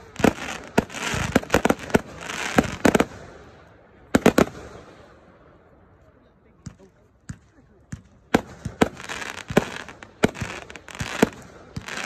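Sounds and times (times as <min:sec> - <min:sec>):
fireworks bangs: 0:00.0 - 0:03.5, 0:04.1 - 0:05.1, 0:06.7 - 0:12.0
fireworks crackling: 0:00.0 - 0:05.2, 0:07.4 - 0:12.0.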